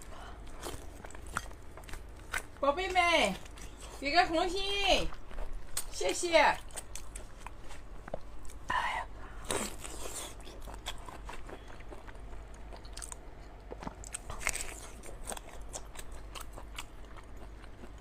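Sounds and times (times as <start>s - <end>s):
biting and chewing prawns: 0.0s - 18.0s.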